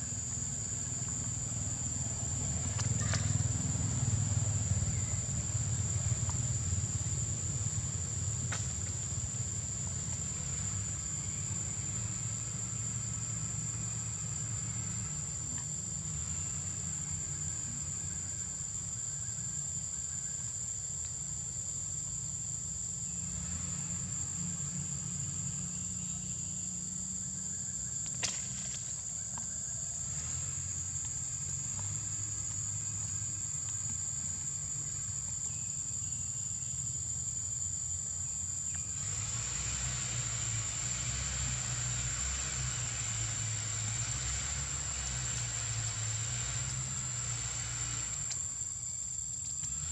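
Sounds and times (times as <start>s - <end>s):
high-pitched insect drone: 0.0s - 49.9s.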